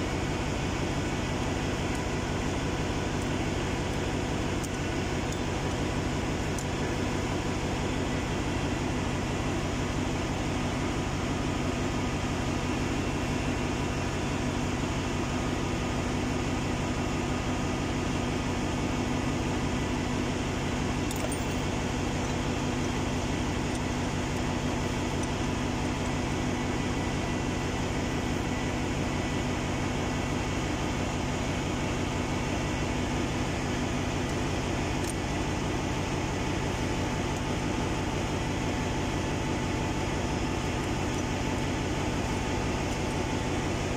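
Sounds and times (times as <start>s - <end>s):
engine room machinery drone: 0.0s - 43.9s.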